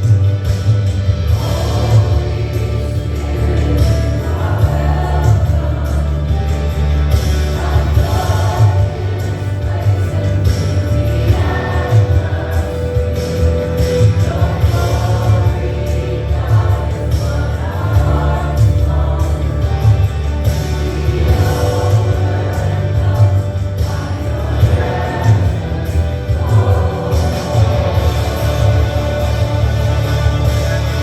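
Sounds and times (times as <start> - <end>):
band with heavy bass: 0.0 - 31.0
group of voices singing: 1.1 - 31.0.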